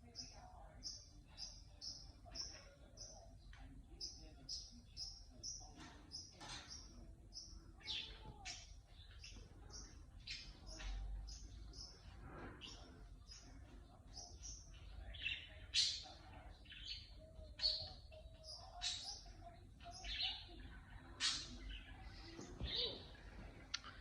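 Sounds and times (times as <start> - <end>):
small bird chirping: 0.0 - 24.0.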